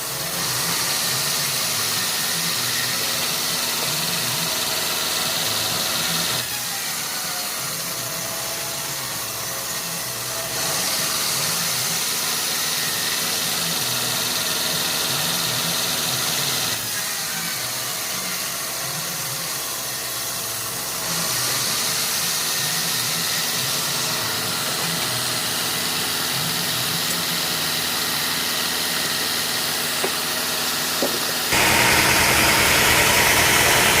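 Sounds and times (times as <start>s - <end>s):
sawmill machinery drone: 0.0s - 34.0s.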